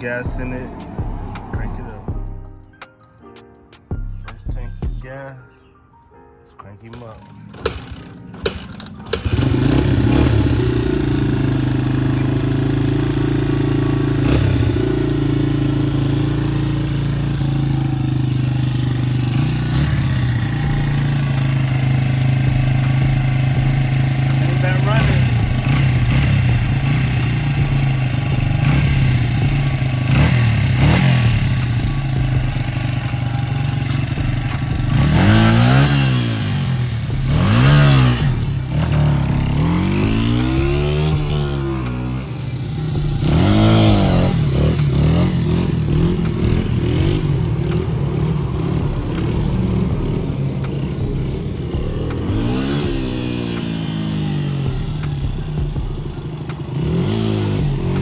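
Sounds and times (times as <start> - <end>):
dirt bike engine idling and revving: 0.0 - 2.7, 7.5 - 58.0.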